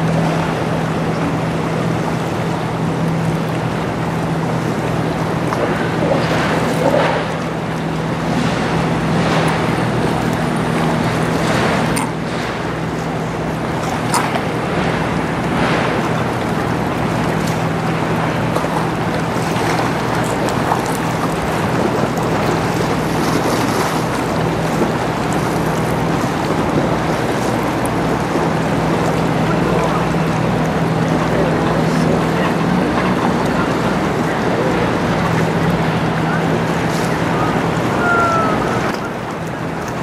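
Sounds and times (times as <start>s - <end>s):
ship engine drone: 0.0s - 40.0s
waves washing: 0.0s - 40.0s.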